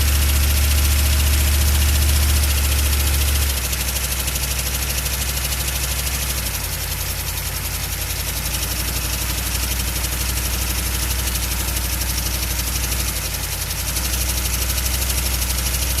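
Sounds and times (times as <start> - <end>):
diesel engine idling with knocking: 0.0 - 16.0.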